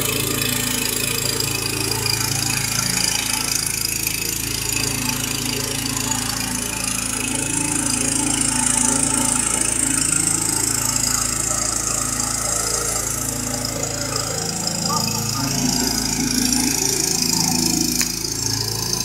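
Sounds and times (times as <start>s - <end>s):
pump engine running under load: 0.0s - 19.0s.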